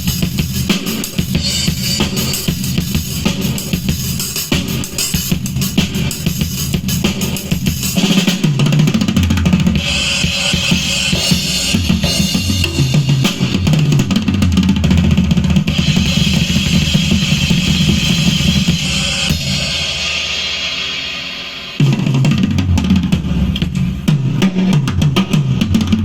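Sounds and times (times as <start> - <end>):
music with heavy drum beat: 0.0 - 26.0.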